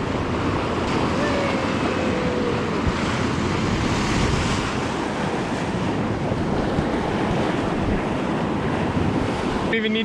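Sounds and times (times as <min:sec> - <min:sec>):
wind buffeting microphone: 0:00.0 - 0:09.8
river rushing and churning: 0:00.0 - 0:10.0.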